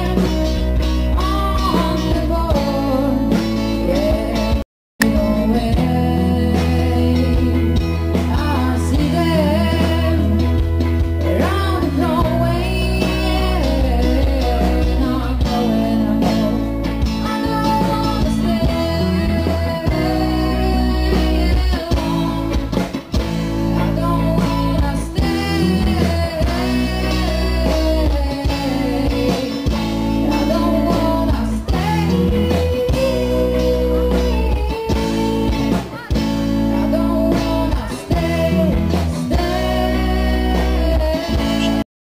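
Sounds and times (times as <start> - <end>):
heavy bass: 0.0 - 41.8
woman singing: 0.0 - 41.8
drums: 0.0 - 41.9
electric guitar: 0.0 - 41.9.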